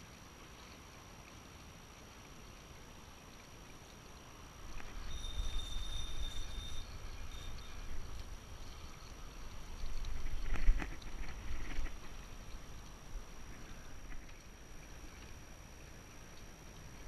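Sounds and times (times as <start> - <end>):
water lapping against rocks: 0.1 - 17.0
faint high whine: 3.0 - 17.0.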